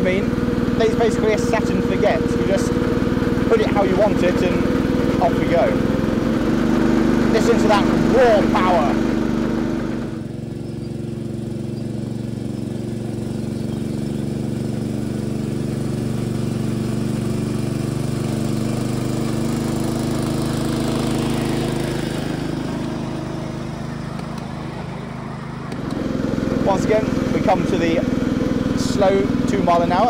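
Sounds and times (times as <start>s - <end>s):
small petrol engine running: 0.0s - 30.0s.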